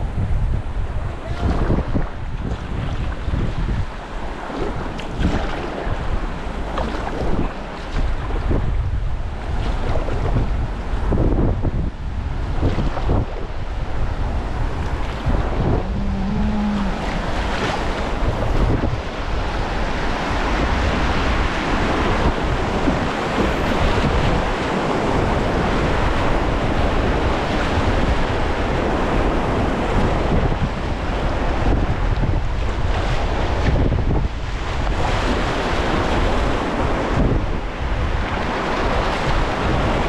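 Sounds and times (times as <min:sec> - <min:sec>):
wind buffeting microphone: 0:00.0 - 0:40.0
river water rushing and splashing: 0:00.7 - 0:40.0.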